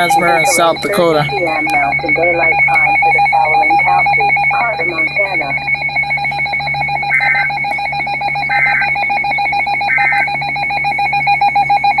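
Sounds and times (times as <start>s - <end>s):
fast-pulsing electronic buzz: 0.0s - 12.0s
two-tone warbling data bursts: 0.0s - 12.0s.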